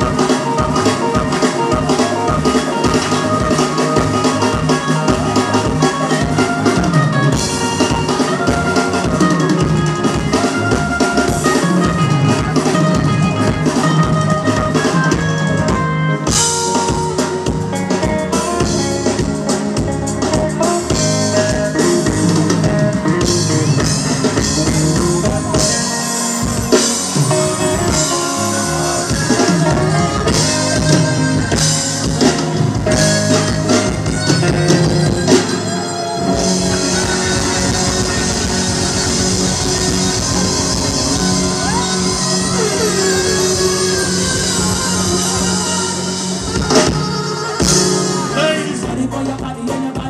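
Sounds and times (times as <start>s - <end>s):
drum kit: 0.0s - 50.0s
electric guitar: 0.0s - 50.0s
live band playing: 0.0s - 50.0s.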